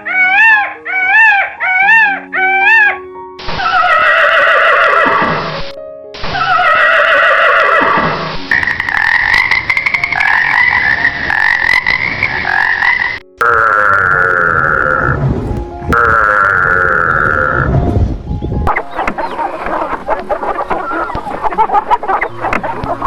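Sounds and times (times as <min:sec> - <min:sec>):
large animal calling: 0:00.0 - 0:15.2, 0:15.9 - 0:17.8, 0:18.7 - 0:23.0.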